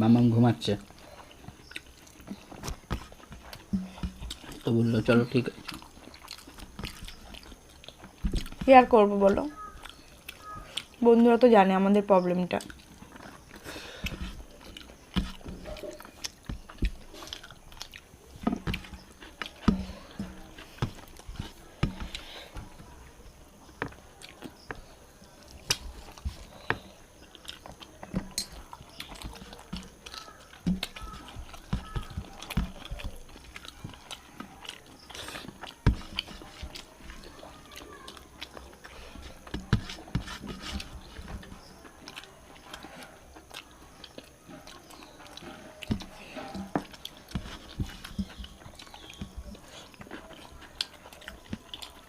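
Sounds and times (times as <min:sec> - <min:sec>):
chewing and biting: 0:00.7 - 0:11.1, 0:12.2 - 0:52.0.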